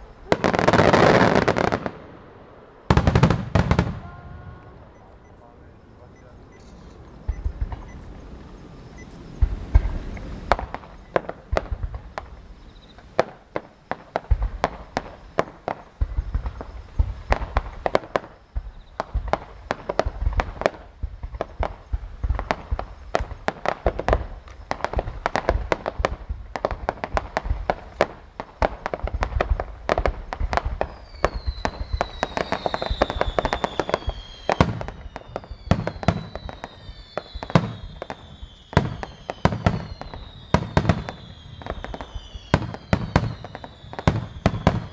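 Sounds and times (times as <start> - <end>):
falling firework whistles: 0.0 - 2.1, 2.7 - 44.9
fireworks bursting: 0.0 - 44.9.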